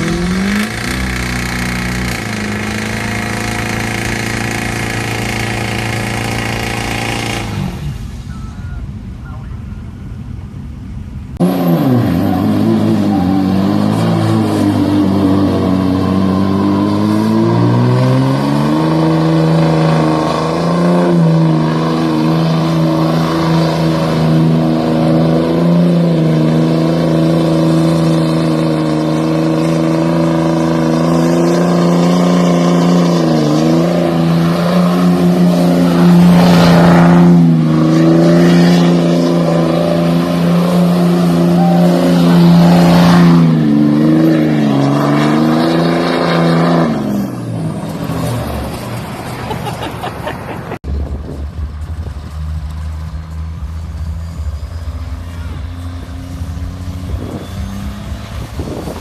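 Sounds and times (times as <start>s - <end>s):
diesel truck engine revving: 0.0s - 9.3s, 11.3s - 59.0s.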